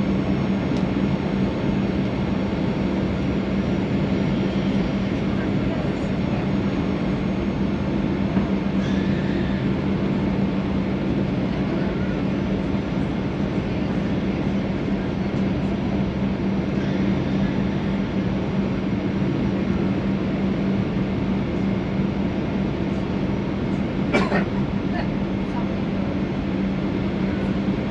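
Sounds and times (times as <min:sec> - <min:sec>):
airplane cabin rumble: 0:00.0 - 0:27.9
constant low hum: 0:00.0 - 0:27.9.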